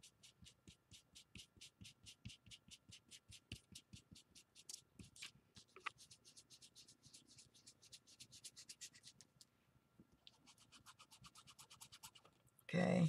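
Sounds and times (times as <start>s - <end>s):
scratchy strokes on paper: 0.0s - 9.3s, 10.3s - 12.3s.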